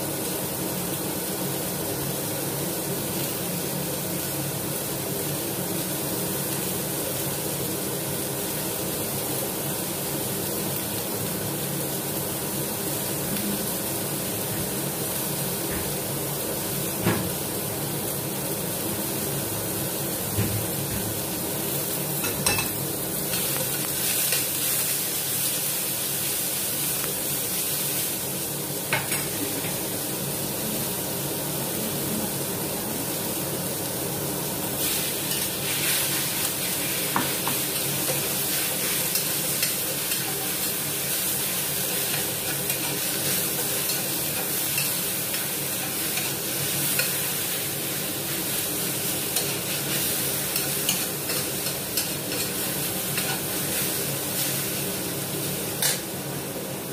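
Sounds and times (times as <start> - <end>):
food sizzling in a wok: 0.0 - 56.9.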